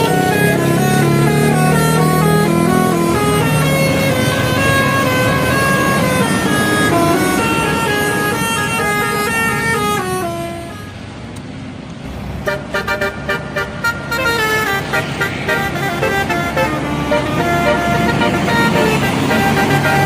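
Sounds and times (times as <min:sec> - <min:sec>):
bus horn playing a tune: 0:00.0 - 0:11.1, 0:12.4 - 0:20.0.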